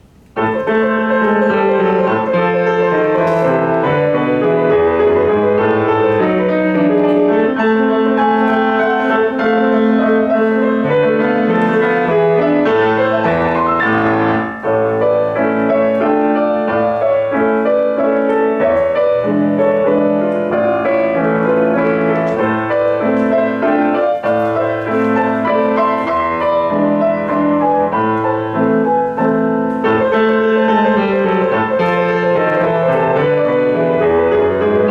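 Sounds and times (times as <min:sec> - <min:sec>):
solo piano playing: 0:00.0 - 0:34.9.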